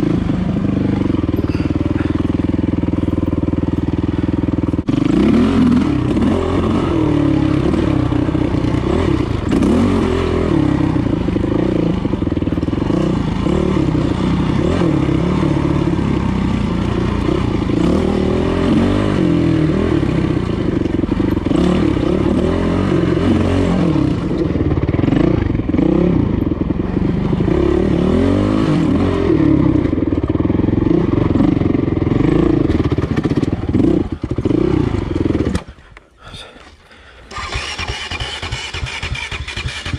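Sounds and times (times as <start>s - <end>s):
dirt bike engine revving: 0.0s - 35.9s, 37.3s - 39.9s.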